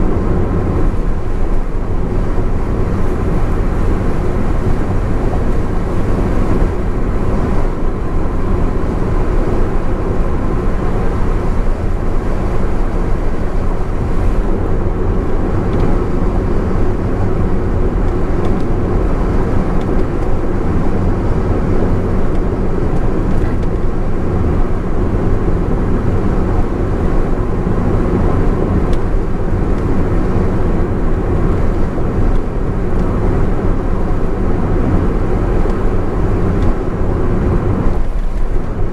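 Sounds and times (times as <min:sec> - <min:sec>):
car engine: 0:00.0 - 0:38.9
wind noise: 0:00.0 - 0:38.9.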